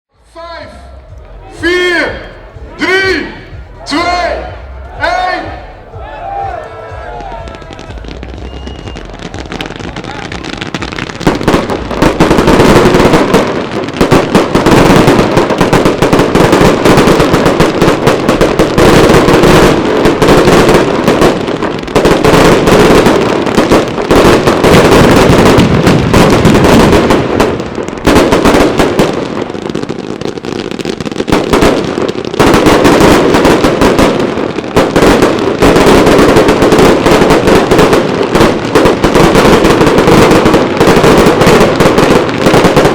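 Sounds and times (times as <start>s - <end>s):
firework bangs and crackling: 0.7s - 42.9s.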